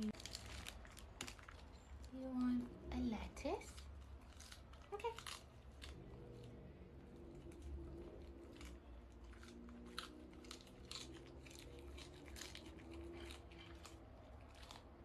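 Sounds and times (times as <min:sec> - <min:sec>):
small pet chewing vegetables: 0:00.0 - 0:15.0.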